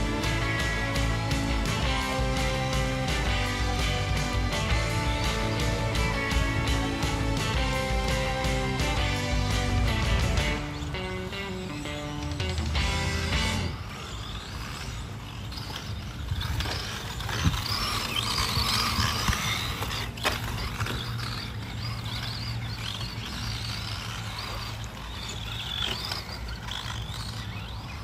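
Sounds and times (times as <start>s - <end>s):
toy car electric motor whining: 0.0s - 28.0s.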